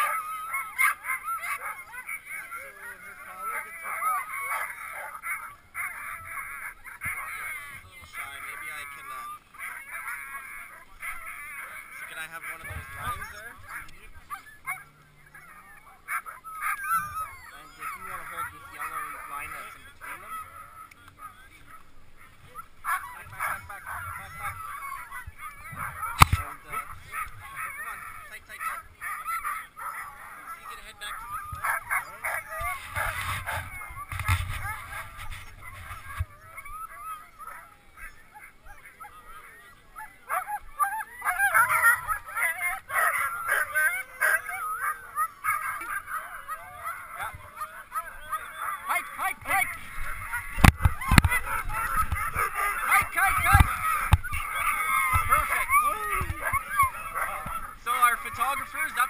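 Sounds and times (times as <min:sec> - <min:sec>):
dogs yelping and howling: 0:00.0 - 0:59.0.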